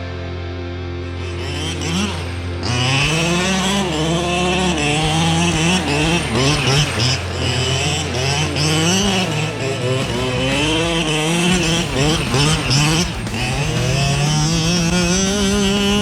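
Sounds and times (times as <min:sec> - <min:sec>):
two-stroke engine revving: 0:01.3 - 0:16.0.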